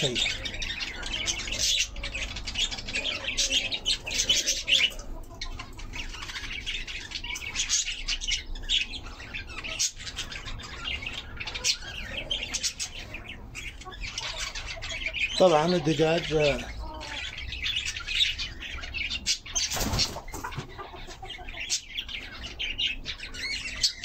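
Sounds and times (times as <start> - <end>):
birds chirping and squawking: 0.0 - 24.0.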